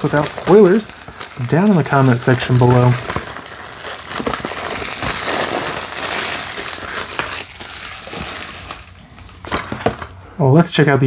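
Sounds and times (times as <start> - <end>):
plastic shrink-wrap crinkling: 0.0 - 10.2.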